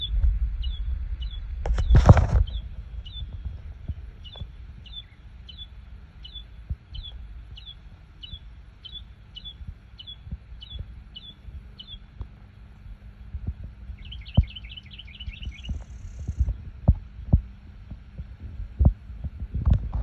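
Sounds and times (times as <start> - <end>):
bird chirping: 0.0 - 17.5
low rumble: 0.0 - 20.0.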